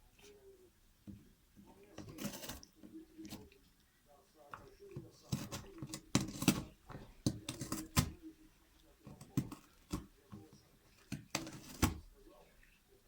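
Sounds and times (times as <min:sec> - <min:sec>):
cat gnawing and crunching: 0:01.2 - 0:13.0.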